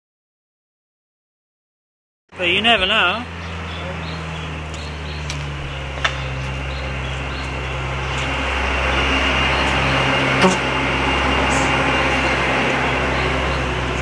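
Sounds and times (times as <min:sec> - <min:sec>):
bus engine driving past: 0:02.4 - 0:14.0.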